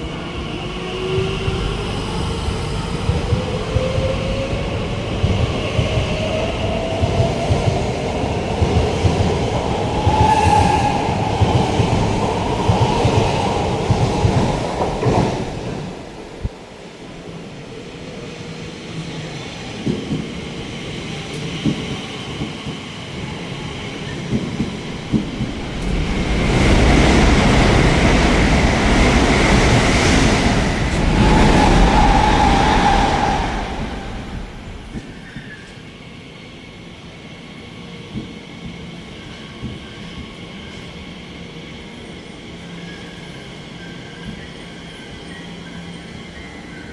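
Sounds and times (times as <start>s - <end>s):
train passing on track: 0.0s - 46.9s.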